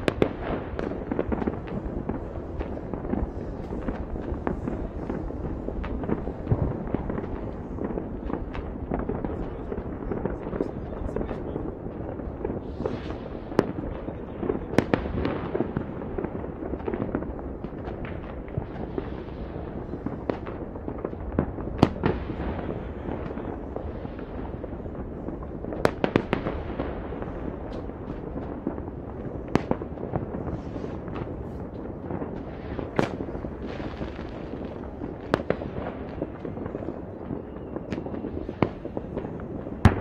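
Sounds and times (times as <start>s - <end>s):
fireworks crackling and rumbling: 0.0s - 40.0s
sharp firework bangs: 0.0s - 40.0s.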